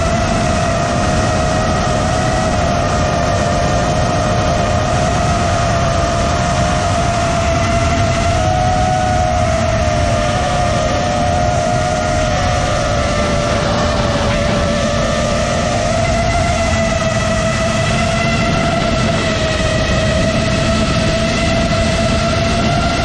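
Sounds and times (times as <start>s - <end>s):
drone motors whining: 0.0s - 23.0s
low rumble: 0.0s - 23.0s.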